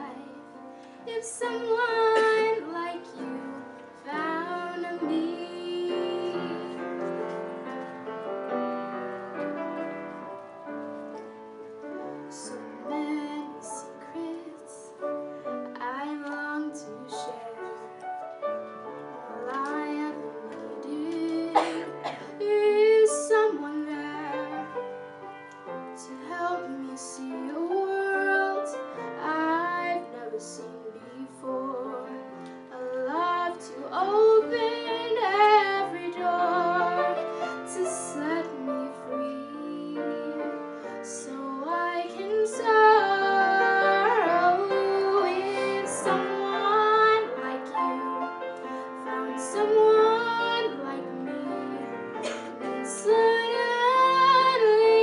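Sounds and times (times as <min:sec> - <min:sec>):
woman singing a slow ballad: 0:00.0 - 0:07.3, 0:12.3 - 0:15.0, 0:15.7 - 0:18.0, 0:19.3 - 0:24.7, 0:25.9 - 0:48.4, 0:49.0 - 0:55.0
grand piano: 0:00.0 - 0:55.0.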